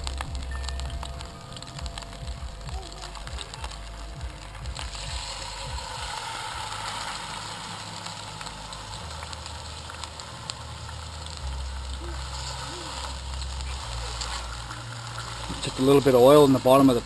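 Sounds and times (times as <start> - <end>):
low rumble: 0.0 - 17.0
meat sizzling in oil: 0.0 - 17.0.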